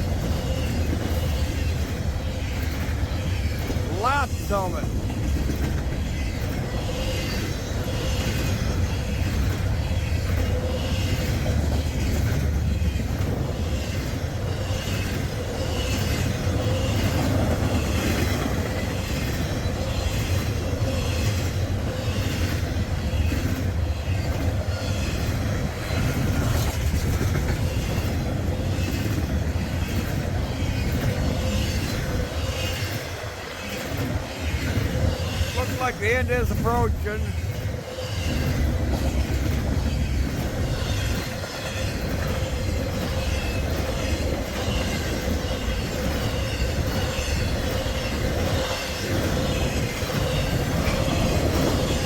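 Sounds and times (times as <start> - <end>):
freight train rumbling: 0.0 - 52.0.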